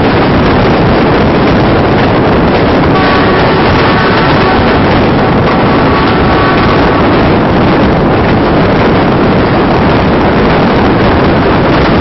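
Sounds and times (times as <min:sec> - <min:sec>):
train wheels rumbling on rails: 0:00.0 - 0:12.0
wind on microphone: 0:00.0 - 0:12.0.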